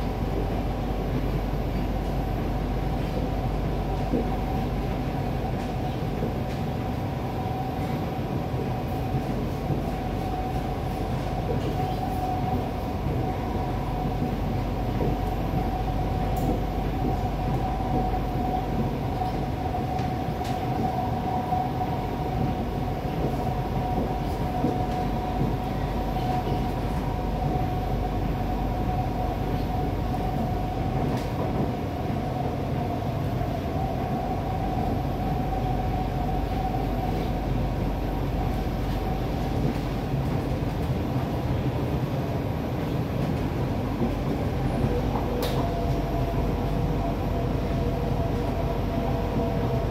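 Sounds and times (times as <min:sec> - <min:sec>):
wheels rumbling on rail: 0:00.0 - 0:49.9.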